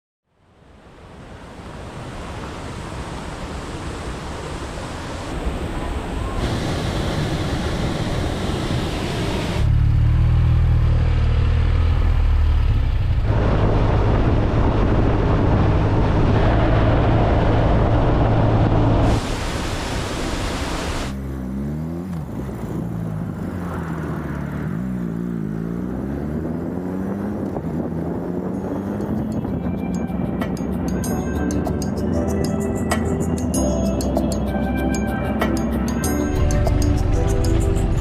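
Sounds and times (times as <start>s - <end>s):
wind and road noise: 0.2s - 38.0s
motorcycle engine drone: 5.0s - 19.5s, 20.2s - 38.0s.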